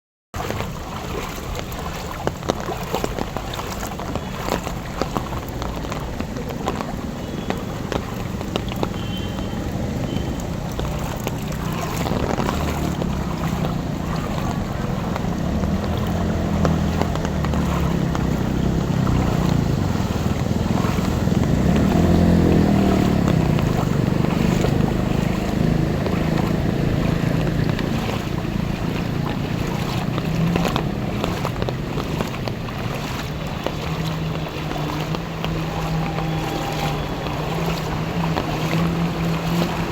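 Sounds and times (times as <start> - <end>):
water sloshing: 0.4 - 39.9
wind on microphone: 2.2 - 39.9
vehicle engine running: 5.2 - 39.9.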